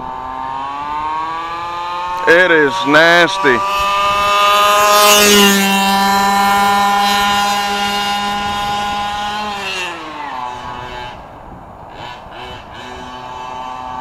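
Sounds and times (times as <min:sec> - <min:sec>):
small gas engine revving high: 0:00.0 - 0:14.0.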